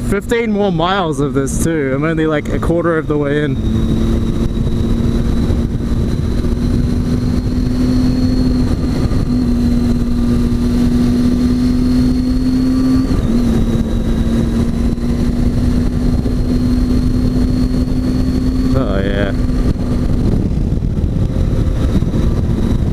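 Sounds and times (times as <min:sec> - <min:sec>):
motorcycle engine cruising: 0:00.0 - 0:22.9
wind rush: 0:00.0 - 0:22.9.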